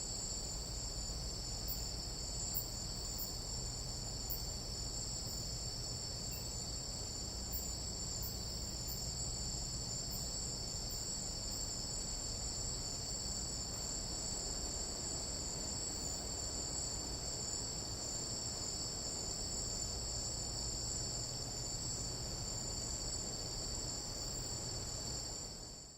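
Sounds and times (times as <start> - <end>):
night insects trilling: 0.1 - 25.9.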